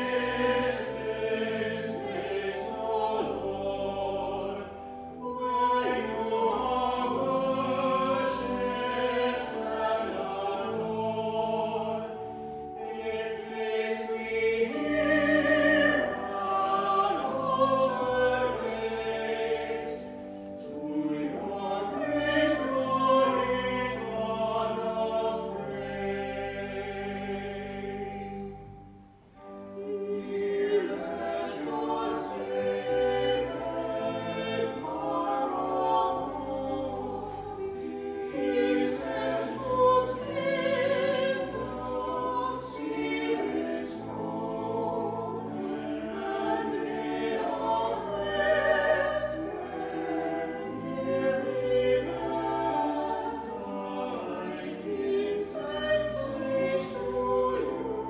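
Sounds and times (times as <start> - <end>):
choir singing an anthem: 0.0 - 58.0.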